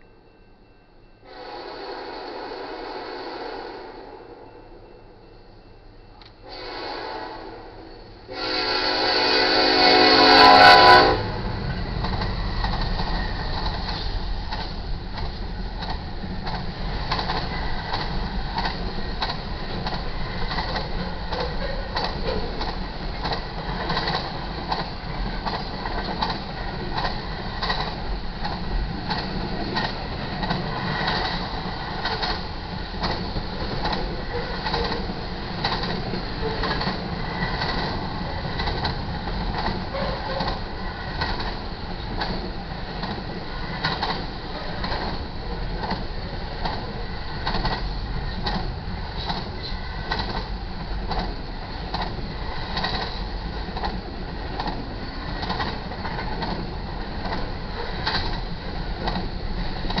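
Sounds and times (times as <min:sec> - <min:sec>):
steel wheels rumbling on rail: 0:06.4 - 1:00.0
wheels clacking over rail joints: 0:11.6 - 1:00.0.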